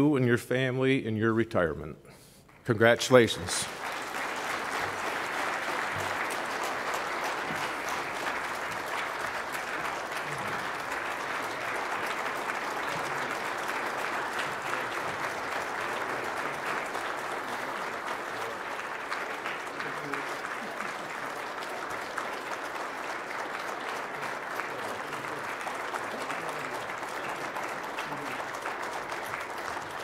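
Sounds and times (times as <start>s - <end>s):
large audience applauding: 2.8s - 30.0s.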